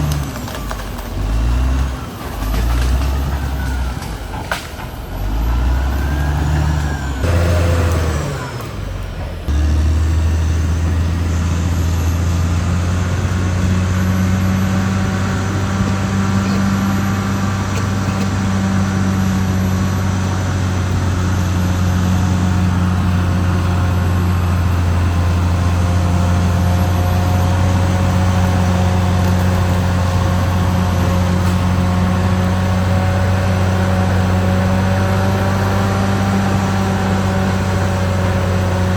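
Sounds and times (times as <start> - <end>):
bulldozer diesel engine droning: 0.0 - 38.9.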